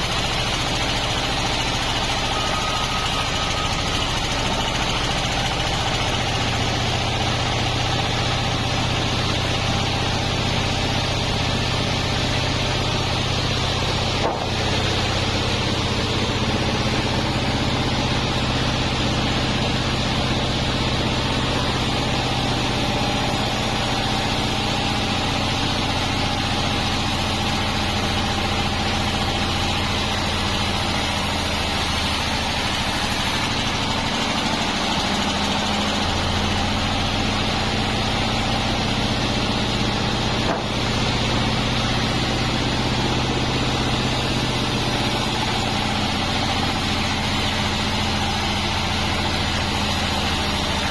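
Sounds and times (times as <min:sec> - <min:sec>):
bandsaw running: 0:00.0 - 0:50.9.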